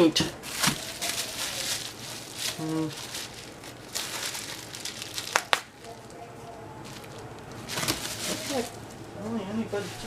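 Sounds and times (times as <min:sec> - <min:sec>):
packing material rustling: 0:00.4 - 0:10.0.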